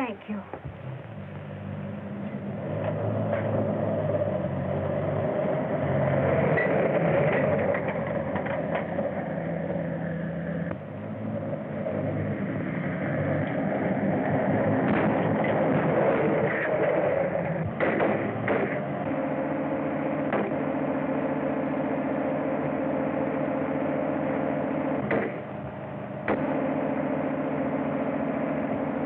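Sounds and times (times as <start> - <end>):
film soundtrack hiss: 0.0 - 29.0
old vehicle engine drone: 0.0 - 29.0.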